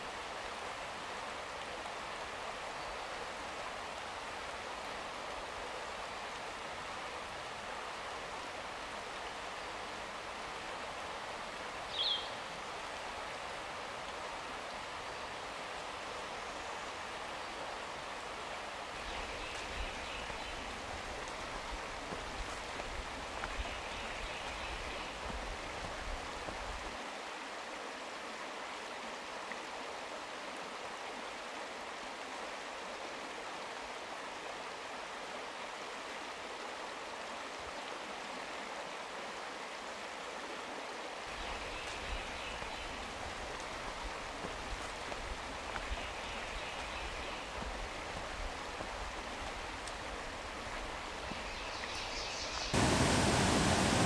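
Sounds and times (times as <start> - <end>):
creek rushing: 0.0 - 54.0.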